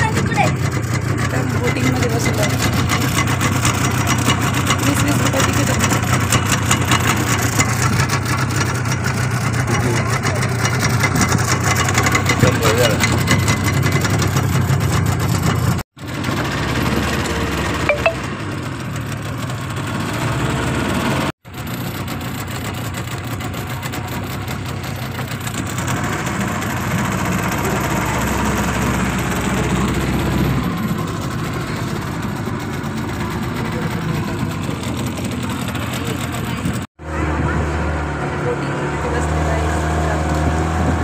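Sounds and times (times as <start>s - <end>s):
motorboat engine running: 0.0s - 41.0s.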